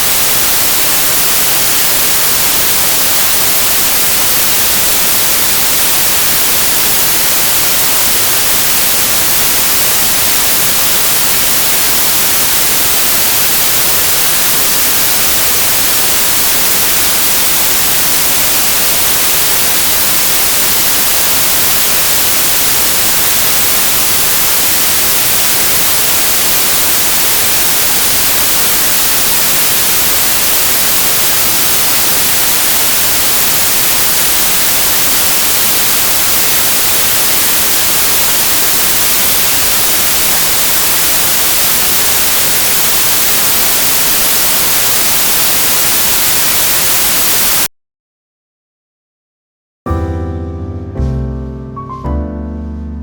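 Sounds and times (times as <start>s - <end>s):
white noise hiss: 0.0s - 47.6s.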